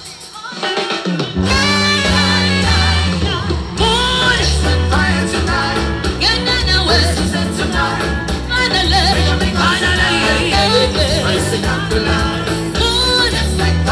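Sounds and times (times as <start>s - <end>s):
person singing: 0.4s - 13.9s
deep bass line: 1.4s - 13.9s.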